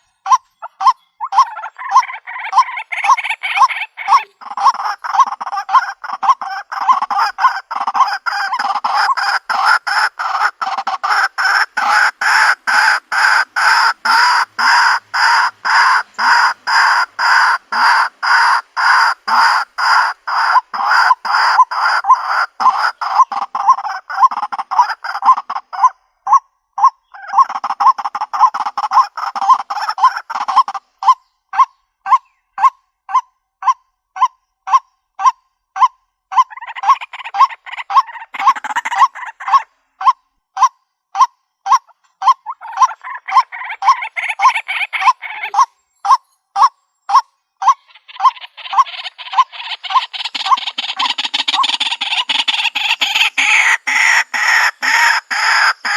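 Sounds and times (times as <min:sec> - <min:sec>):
waterhen honking calls: 0:00.0 - 0:55.9.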